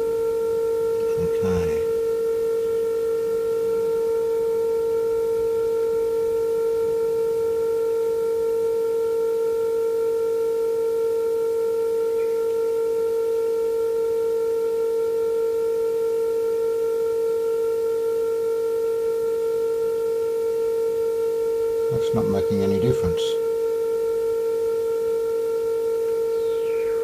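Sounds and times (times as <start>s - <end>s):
steady test tone from radio: 0.0s - 27.0s.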